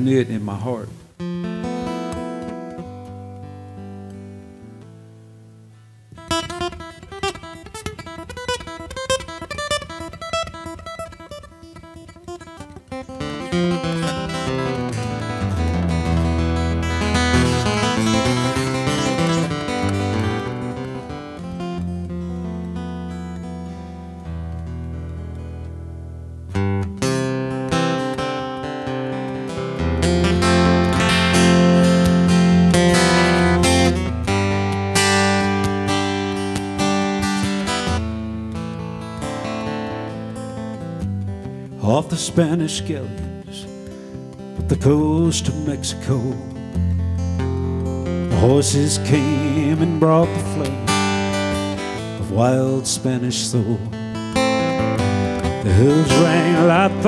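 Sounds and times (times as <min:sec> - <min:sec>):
acoustic guitar plucked notes: 0:00.0 - 0:57.0.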